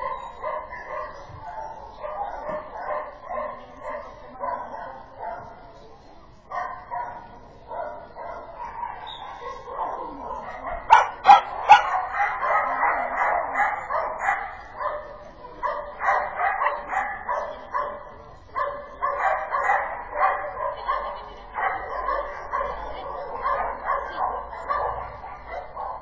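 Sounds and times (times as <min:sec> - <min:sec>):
dogs barking in excited yips: 0:00.0 - 0:05.8, 0:06.5 - 0:26.0.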